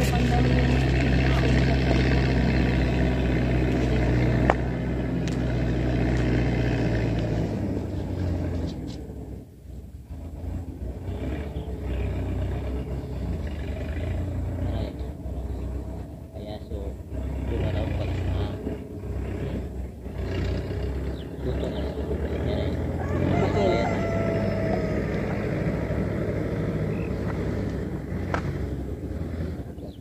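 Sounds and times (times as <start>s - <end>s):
engine humming: 0.0s - 30.0s
outdoor noise: 0.0s - 30.0s.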